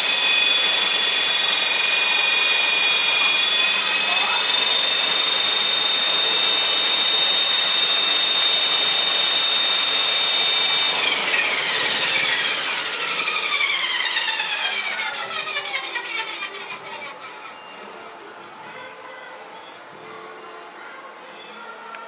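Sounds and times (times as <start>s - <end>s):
rc helicopter rotor whine: 0.0s - 17.9s.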